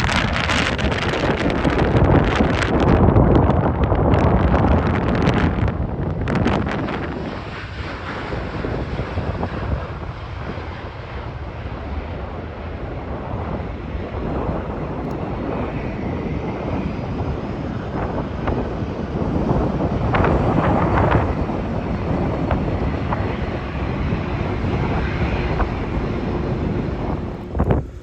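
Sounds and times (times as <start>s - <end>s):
jet engine roar: 0.0s - 28.0s
wind buffeting microphone: 0.0s - 28.0s.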